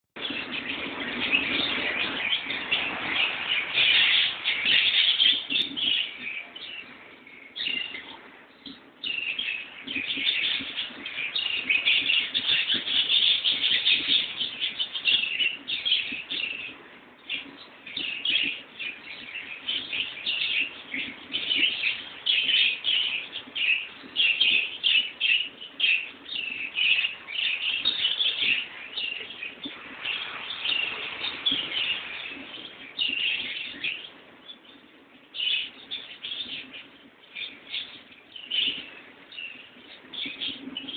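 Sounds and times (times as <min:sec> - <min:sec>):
small birds chirping: 0:00.1 - 0:40.9.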